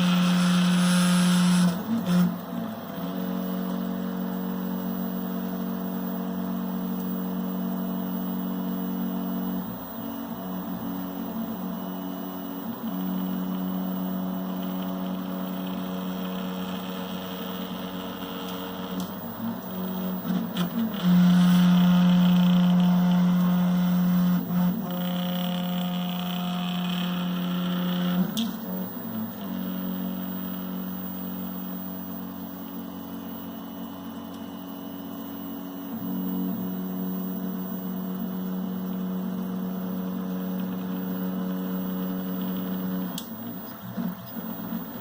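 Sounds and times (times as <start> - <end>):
stepper motors humming: 0.0 - 45.0.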